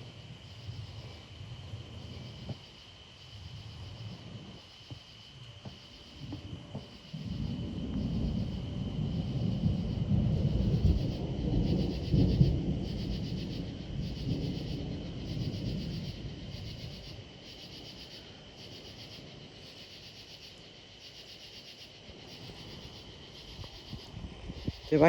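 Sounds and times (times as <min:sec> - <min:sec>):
thunder rumbling: 0:00.0 - 0:19.8, 0:22.1 - 0:25.0
insects chirping: 0:00.0 - 0:25.0.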